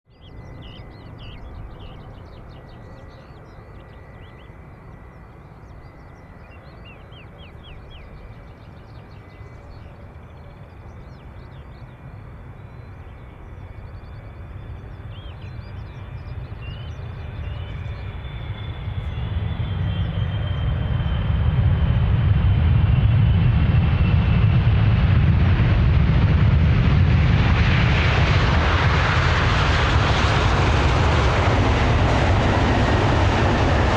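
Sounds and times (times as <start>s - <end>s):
jet engine whine and rumble: 0.1s - 33.9s.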